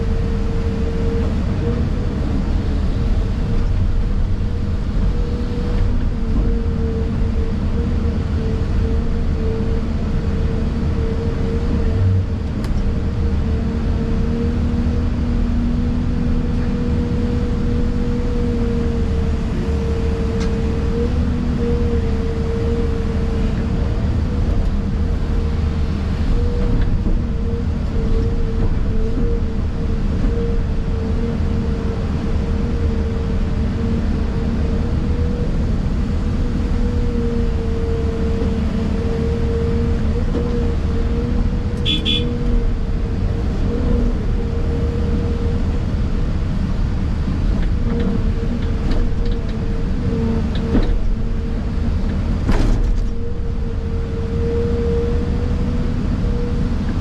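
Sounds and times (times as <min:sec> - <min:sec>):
diesel engine rumble with whine: 0:00.0 - 0:57.0.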